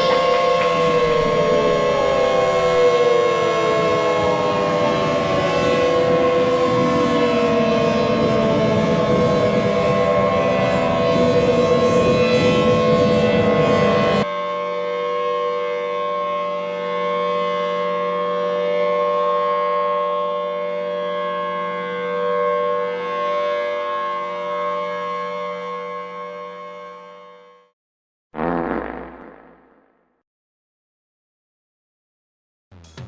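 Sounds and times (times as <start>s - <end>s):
civil defense siren: 0.0s - 27.7s.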